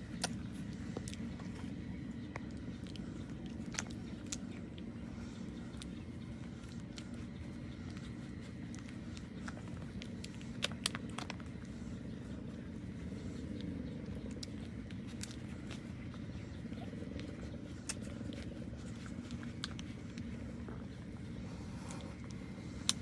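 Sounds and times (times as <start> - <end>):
low background rumble: 0.0 - 23.0
puppies suckling clicks: 0.0 - 23.0.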